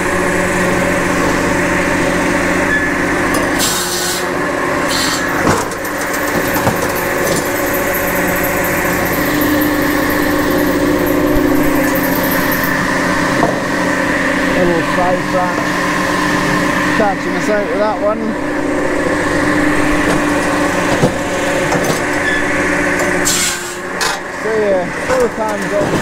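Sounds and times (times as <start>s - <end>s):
circular saw cutting log: 0.0s - 18.2s, 18.8s - 26.0s
firewood processor running: 0.0s - 26.0s.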